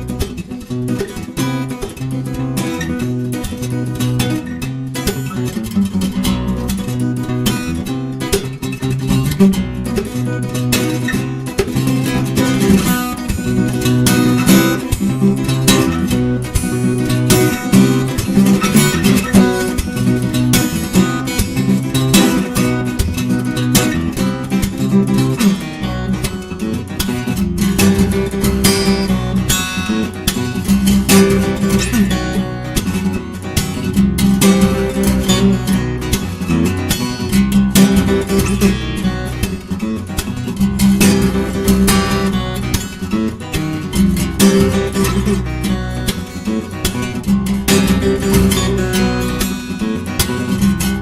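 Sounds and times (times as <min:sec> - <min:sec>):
fingerstyle acoustic guitar: 0:00.0 - 0:51.0.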